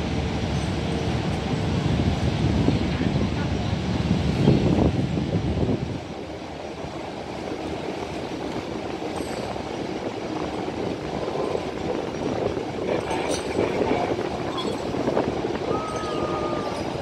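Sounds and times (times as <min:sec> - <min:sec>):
ferry engines running: 0:00.0 - 0:17.0.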